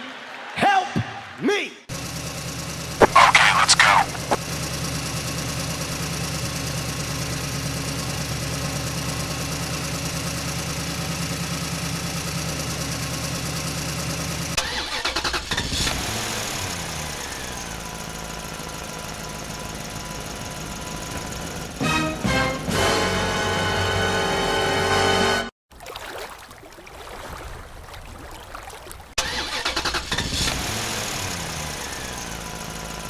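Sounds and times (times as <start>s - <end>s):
vehicle engine running: 1.9s - 25.0s, 29.2s - 33.0s.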